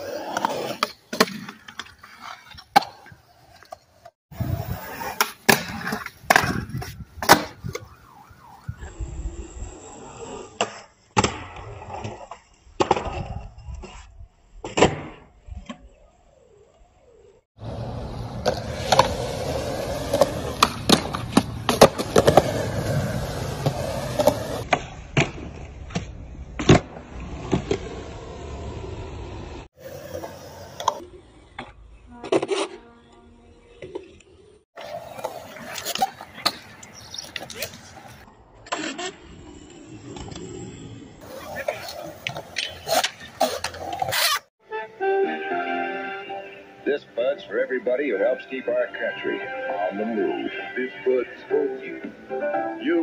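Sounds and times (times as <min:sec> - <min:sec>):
skateboard rolling on concrete: 0:00.0 - 0:44.5.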